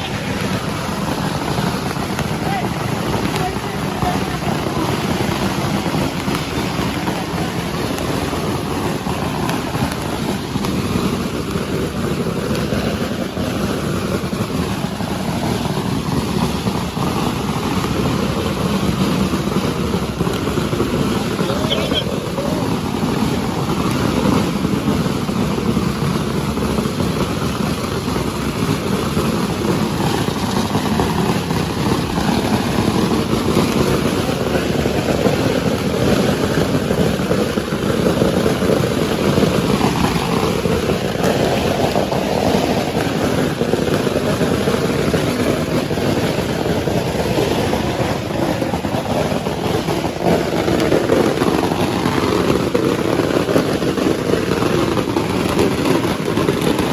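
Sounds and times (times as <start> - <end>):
firecrackers crackling: 0.0 - 56.9.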